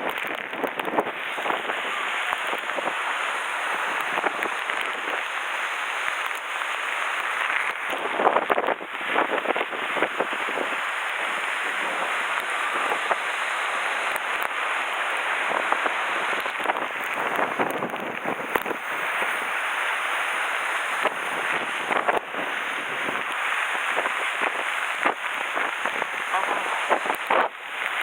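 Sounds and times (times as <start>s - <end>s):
storm wind and rain: 0.0s - 28.0s.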